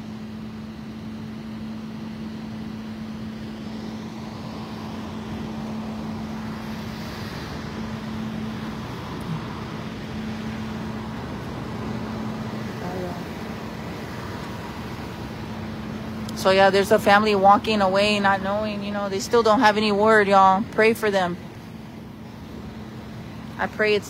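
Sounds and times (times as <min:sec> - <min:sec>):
constant hum: 0:00.0 - 0:24.0
street noise: 0:00.0 - 0:24.0
vehicle engine idling: 0:00.0 - 0:24.0.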